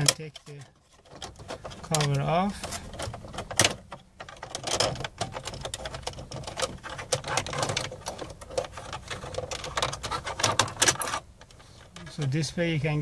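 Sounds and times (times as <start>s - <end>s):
plastic trim clicks and rattles: 0.0s - 12.4s.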